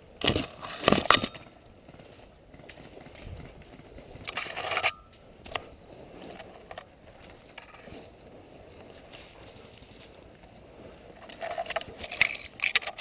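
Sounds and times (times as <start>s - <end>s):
branches scraping past camera: 0.2s - 13.0s.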